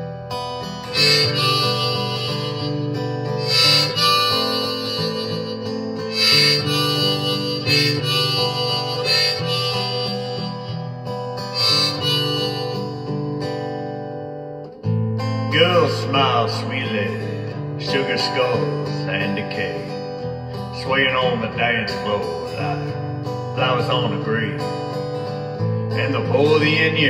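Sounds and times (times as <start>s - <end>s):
harmonica playing held notes: 0.0s - 14.1s, 15.7s - 27.0s
strummed acoustic guitar: 0.0s - 27.0s.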